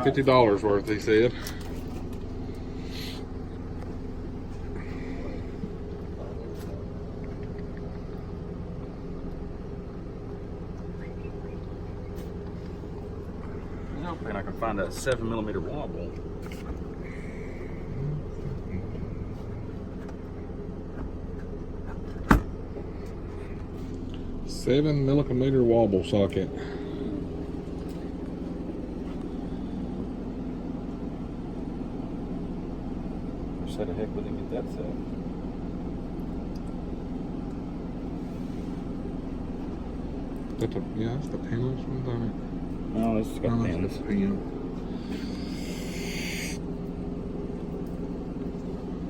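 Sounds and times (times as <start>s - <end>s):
low engine hum: 0.0s - 49.0s
machinery droning: 0.0s - 49.0s.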